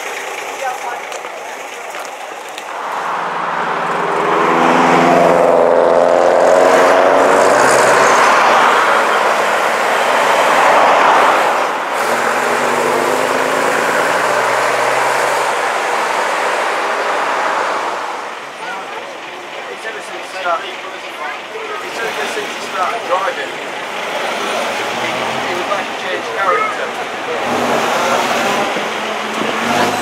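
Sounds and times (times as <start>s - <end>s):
passing car noise: 0.0s - 30.0s.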